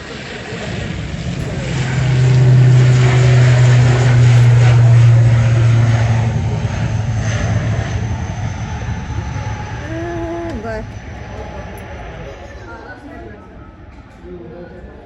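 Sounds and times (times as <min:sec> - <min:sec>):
propeller aircraft drone: 0:00.0 - 0:15.0.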